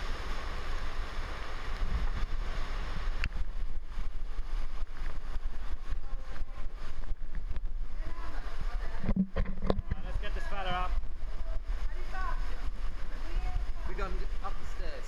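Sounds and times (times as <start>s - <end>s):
floodwater rushing and splashing: 0.0s - 15.0s
low wind rumble: 0.0s - 15.0s
strong wind and heavy rain: 0.0s - 15.0s
wind buffeting microphone: 1.9s - 14.7s.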